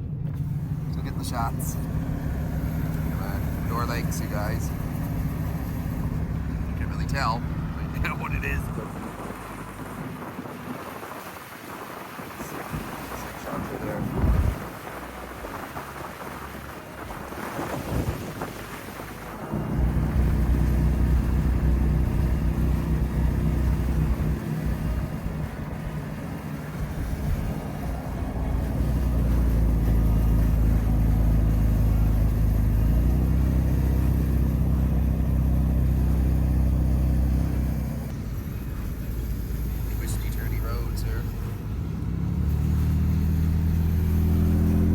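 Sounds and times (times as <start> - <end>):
wind rumble on microphone: 0.0 - 40.6
car engine drone: 0.0 - 44.9
road noise: 0.0 - 44.9.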